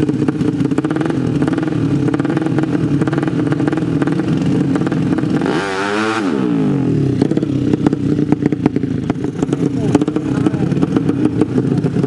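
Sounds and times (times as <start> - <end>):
motorcycle engines crackling: 0.0 - 12.0
motorcycle revving sharply: 0.0 - 12.0.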